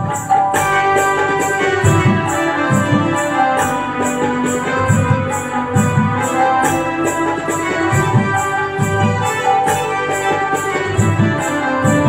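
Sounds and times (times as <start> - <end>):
drum beat: 0.0 - 12.0
electronic keyboard melody: 0.0 - 12.0
shaken high percussion: 0.0 - 12.0.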